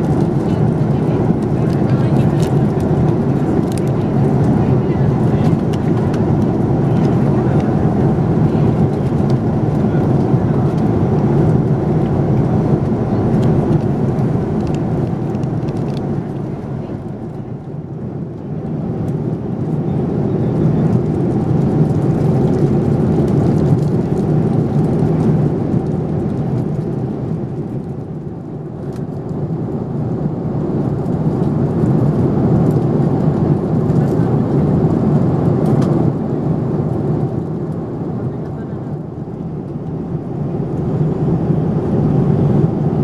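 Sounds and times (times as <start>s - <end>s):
jet engine rumble: 0.0s - 43.0s.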